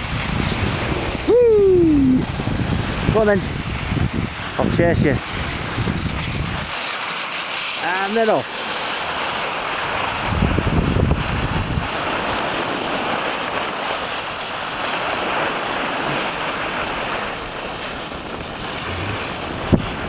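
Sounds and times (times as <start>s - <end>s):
skis sliding on packed snow: 0.0s - 20.0s
wind rushing over microphone: 0.0s - 20.0s.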